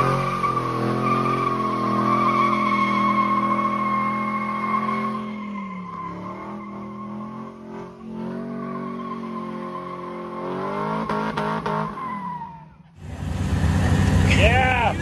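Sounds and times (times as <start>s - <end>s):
car engine revving high: 0.0s - 12.4s
tires squealing: 0.0s - 15.0s.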